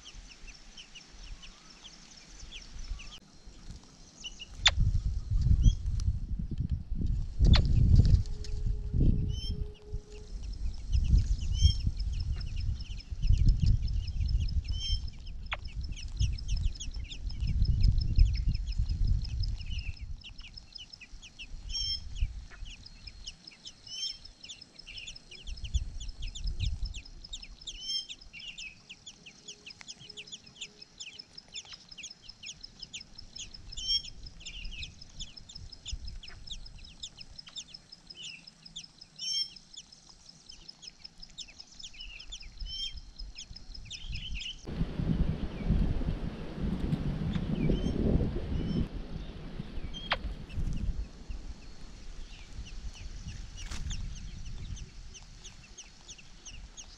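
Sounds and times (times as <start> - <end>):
wind rumble on microphone: 2.2 - 23.6, 24.8 - 28.8, 32.5 - 38.3, 41.8 - 56.9.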